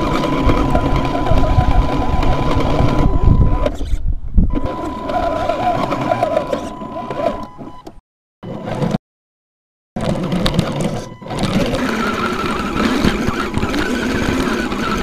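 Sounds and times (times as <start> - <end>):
electric motor whining: 0.0 - 7.7, 10.0 - 15.0.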